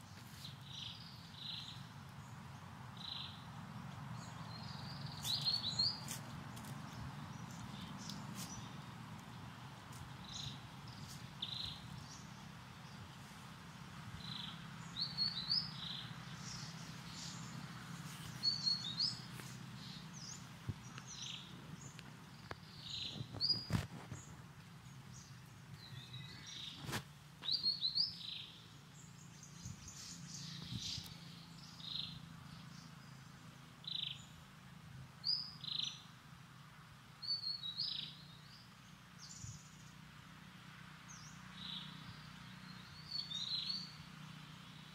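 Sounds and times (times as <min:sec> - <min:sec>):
small birds chirping: 0:00.0 - 0:34.5, 0:35.1 - 0:36.3, 0:37.2 - 0:44.9.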